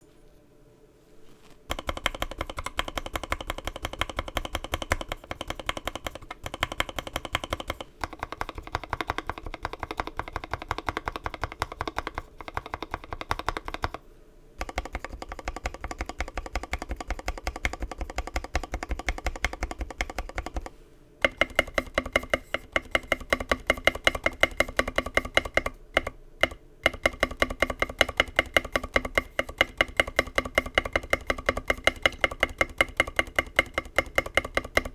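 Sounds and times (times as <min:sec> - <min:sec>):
fast typing on mechanical keyboard: 0:01.7 - 0:14.0, 0:14.6 - 0:34.9.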